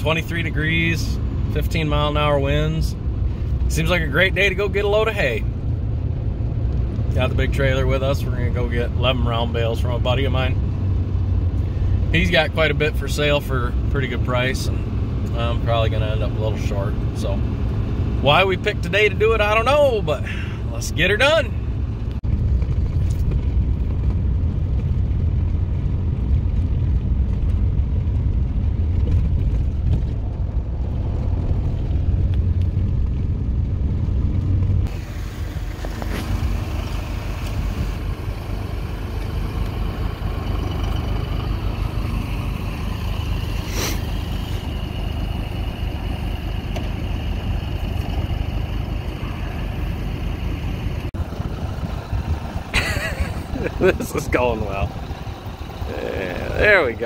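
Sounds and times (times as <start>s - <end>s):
tractor engine running: 0.0s - 57.0s
truck driving rumble: 0.0s - 57.0s.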